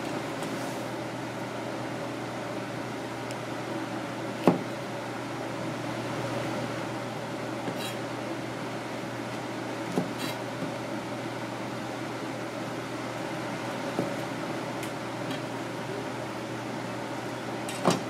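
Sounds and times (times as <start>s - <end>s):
kitchen machinery humming: 0.0s - 18.0s.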